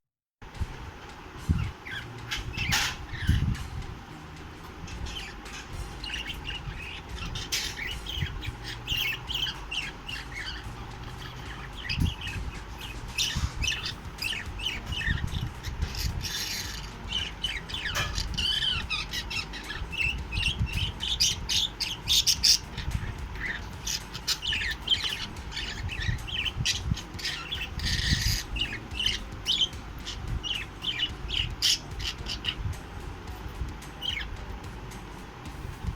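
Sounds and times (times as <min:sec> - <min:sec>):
budgerigars chirping and squawking: 0:01.0 - 0:35.9.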